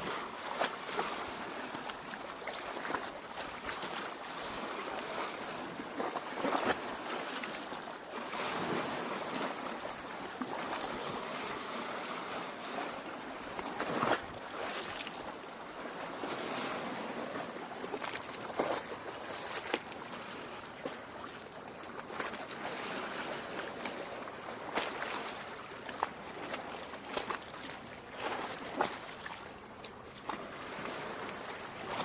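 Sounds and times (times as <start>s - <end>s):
small waves lapping: 0.0s - 32.0s.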